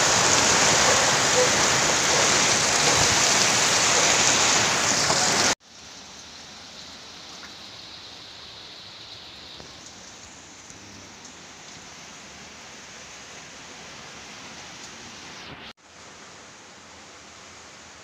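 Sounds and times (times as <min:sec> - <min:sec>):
heavy rain heard indoors: 0:00.0 - 0:18.0.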